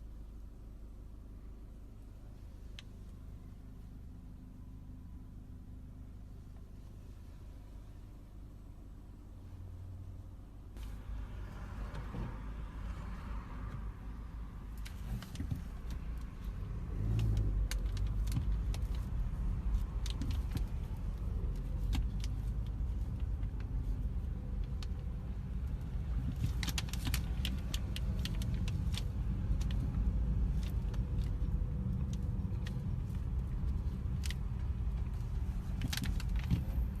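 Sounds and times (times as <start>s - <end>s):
low rumble of car in motion: 0.0s - 37.0s.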